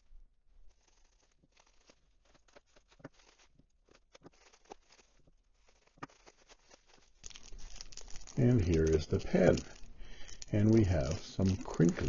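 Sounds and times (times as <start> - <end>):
bubble wrap clicking and crackling: 0.0 - 12.0.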